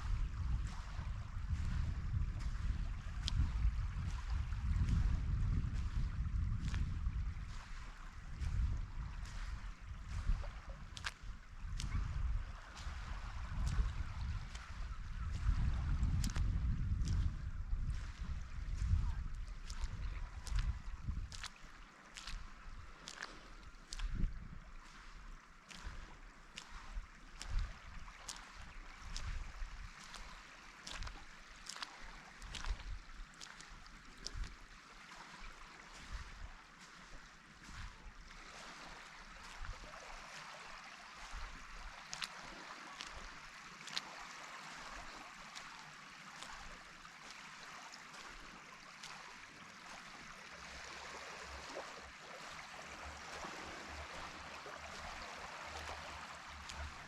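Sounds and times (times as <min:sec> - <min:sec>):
calm sea water washing: 0:00.0 - 0:57.0
footsteps on a pier: 0:00.0 - 0:57.0.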